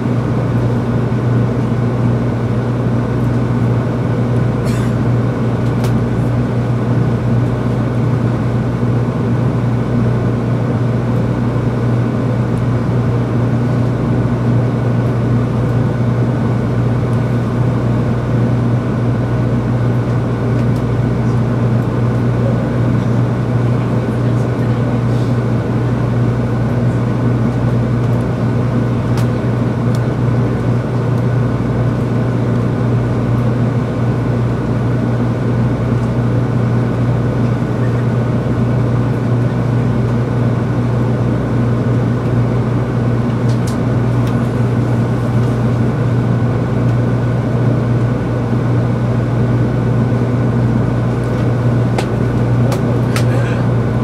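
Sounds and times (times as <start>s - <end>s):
train running rumble: 0.0s - 54.0s.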